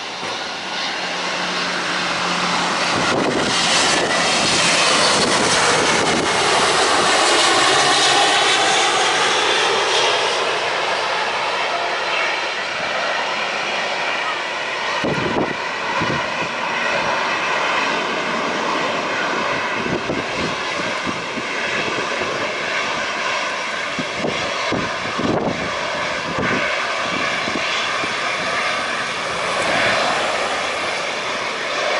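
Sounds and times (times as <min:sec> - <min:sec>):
airplane engine noise: 0:00.0 - 0:31.9
wind buffeting the microphone: 0:00.1 - 0:10.5, 0:12.6 - 0:31.9.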